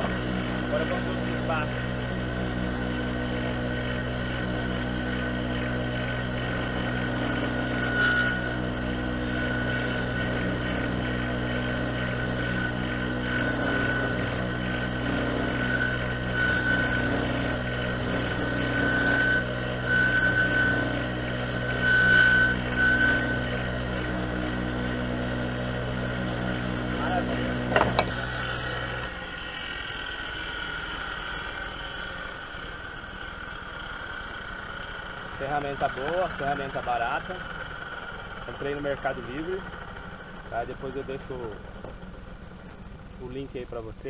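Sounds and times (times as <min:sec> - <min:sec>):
chisel cutting wood whine: 0:00.0 - 0:43.6
lathe motor running: 0:00.0 - 0:44.0.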